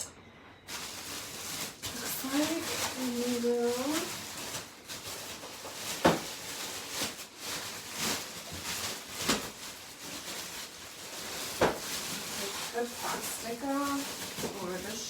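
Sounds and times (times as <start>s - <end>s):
packaging rustling: 0.7s - 15.0s.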